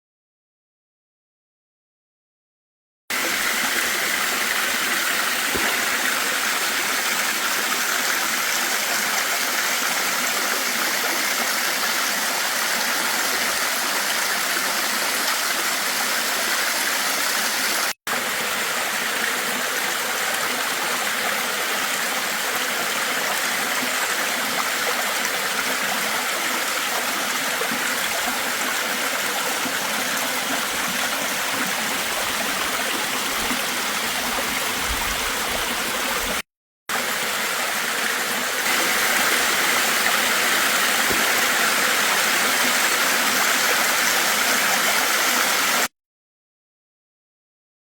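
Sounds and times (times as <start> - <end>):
rushing water: 3.1 - 45.9.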